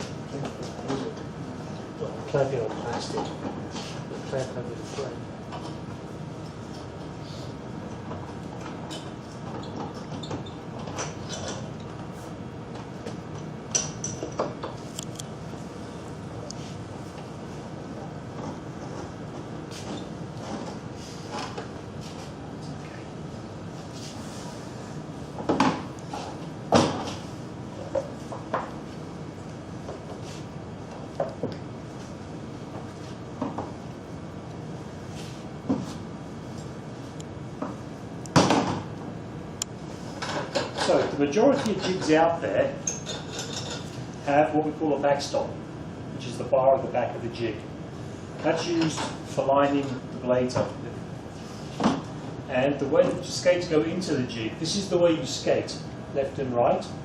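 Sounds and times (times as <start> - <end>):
steady background noise: 0.0 - 57.0.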